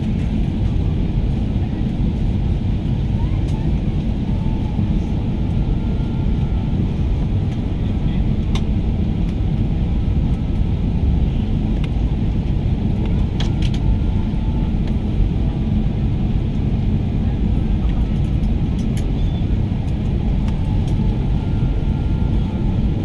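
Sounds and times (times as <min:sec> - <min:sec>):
air-conditioning rush: 0:00.0 - 0:23.0
airplane cabin rumble: 0:00.0 - 0:23.0.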